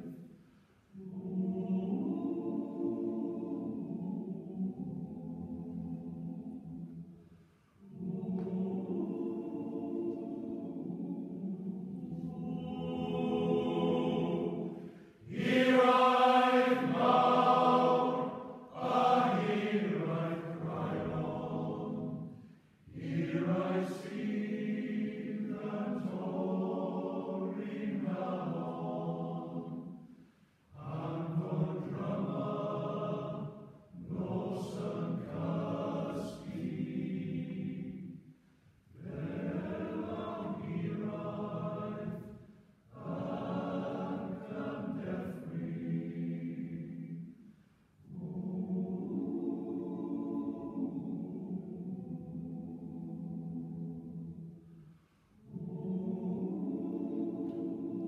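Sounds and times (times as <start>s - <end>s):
male choir singing: 1.0s - 6.8s, 7.8s - 30.0s, 30.7s - 38.2s, 39.0s - 47.3s, 48.1s - 54.2s, 55.5s - 58.0s.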